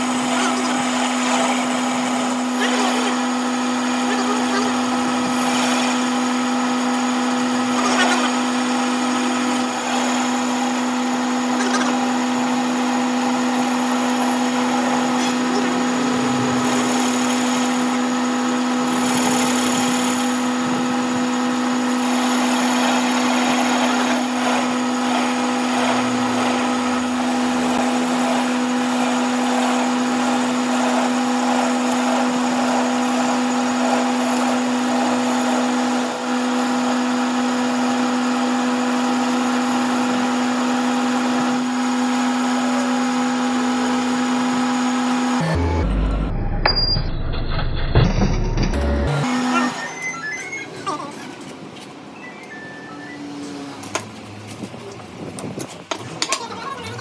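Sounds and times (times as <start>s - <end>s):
electric motor humming: 0.0s - 46.6s, 48.4s - 50.0s
metalworking noise: 0.0s - 57.0s.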